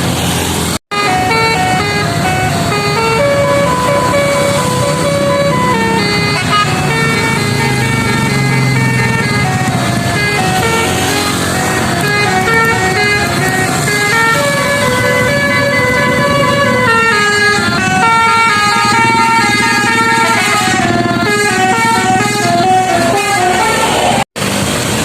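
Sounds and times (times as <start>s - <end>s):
multi-trumpet horn playing a tune: 0.9s - 24.0s.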